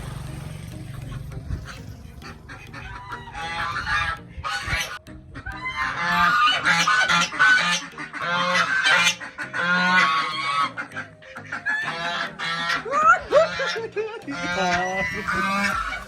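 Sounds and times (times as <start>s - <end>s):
goose honking: 1.0s - 16.0s.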